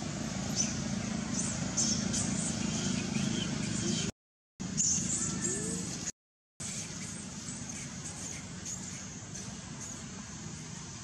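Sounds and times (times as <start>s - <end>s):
distant traffic: 0.0s - 11.0s.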